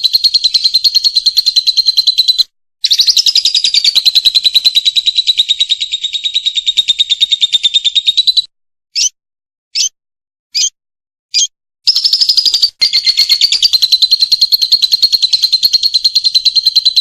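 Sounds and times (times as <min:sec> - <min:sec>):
lovebird chattering trill: 0:00.0 - 0:09.2, 0:11.3 - 0:17.0
bird chirps: 0:00.0 - 0:17.0.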